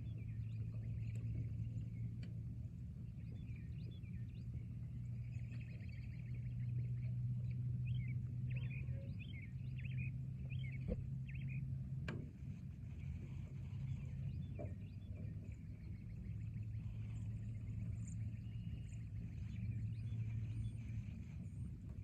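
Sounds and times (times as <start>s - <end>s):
small birds chirping: 0.0s - 11.9s, 12.8s - 21.8s
steady low hum: 0.0s - 22.0s.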